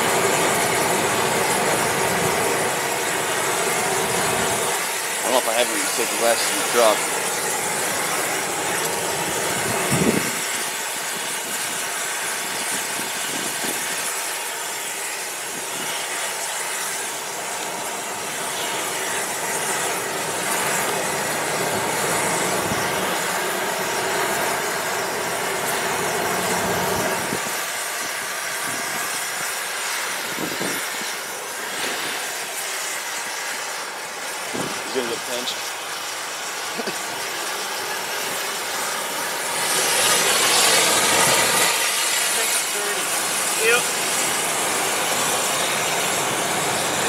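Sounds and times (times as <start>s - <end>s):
torch flame hissing: 0.0s - 47.0s.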